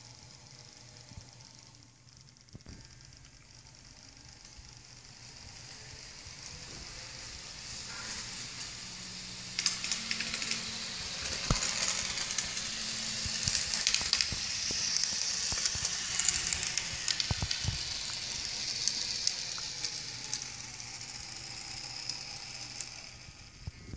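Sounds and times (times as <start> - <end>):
model train wheels hissing on rails: 0.0 - 23.9.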